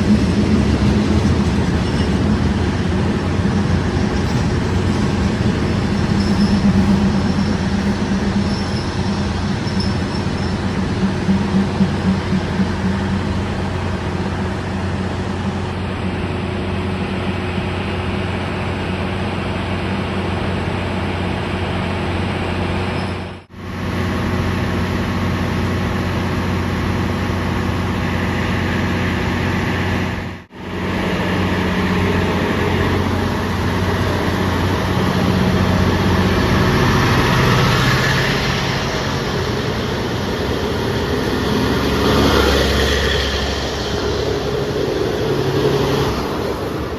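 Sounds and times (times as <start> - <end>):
diesel train engine hum: 0.0 - 46.9
train rumble and hiss: 0.0 - 46.9.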